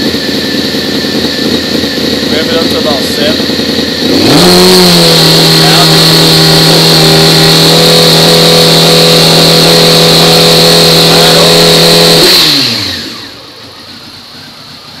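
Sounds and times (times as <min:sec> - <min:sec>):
motorcycle engine idling: 0:00.0 - 0:15.0
motorcycle engine revving: 0:00.0 - 0:15.0.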